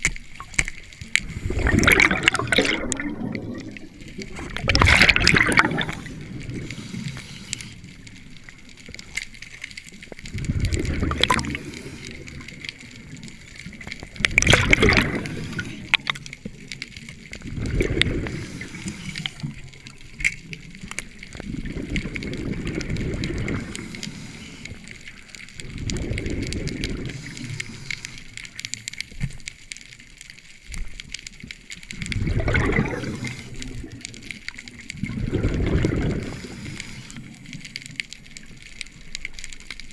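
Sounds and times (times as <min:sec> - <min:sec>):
exhaled air bubbling underwater: 0:00.0 - 0:39.9.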